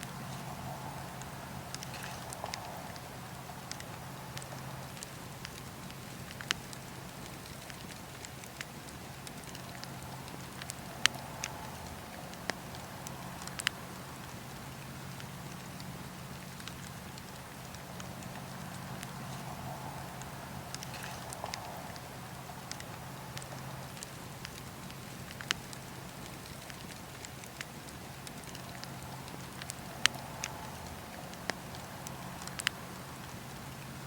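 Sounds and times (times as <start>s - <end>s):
campfire crackling: 0.0s - 34.0s
fire popping: 0.0s - 34.0s.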